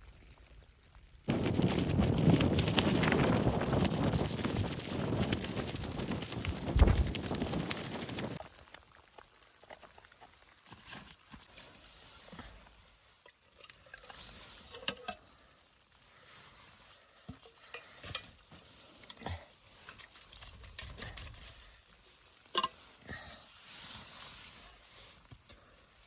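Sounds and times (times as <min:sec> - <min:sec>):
faint rustle: 0:01.3 - 0:13.2, 0:14.0 - 0:26.0.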